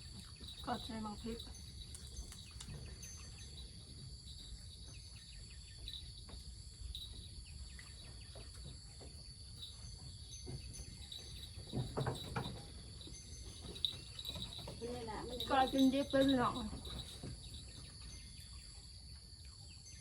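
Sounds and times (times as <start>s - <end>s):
crickets and insects trilling: 0.0s - 20.0s
faint ticks and rustles: 0.0s - 20.0s.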